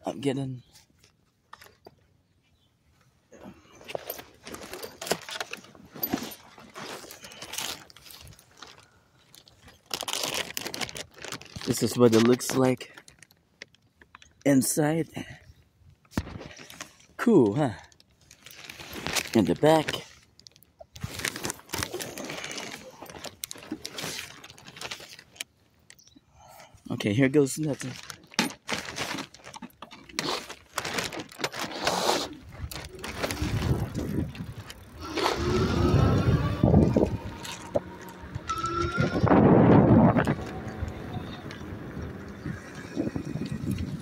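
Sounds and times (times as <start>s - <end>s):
crinkly rustling and crackling: 3.4s - 14.7s, 16.0s - 26.2s, 27.2s - 44.0s.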